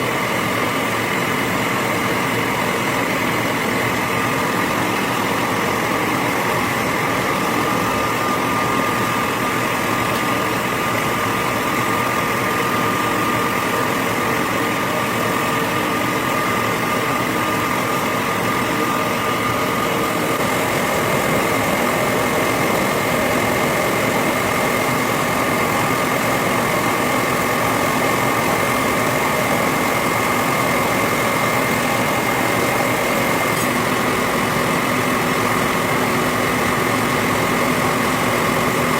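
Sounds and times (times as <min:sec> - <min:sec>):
factory machinery hum: 0:00.0 - 0:38.9
high steady whining tones: 0:00.0 - 0:38.9.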